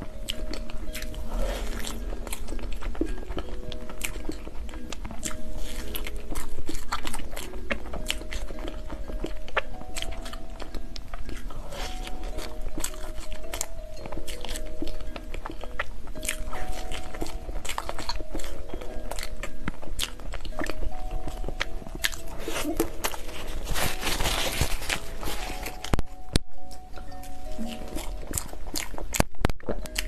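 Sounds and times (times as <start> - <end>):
soft background music: 0.0 - 30.0.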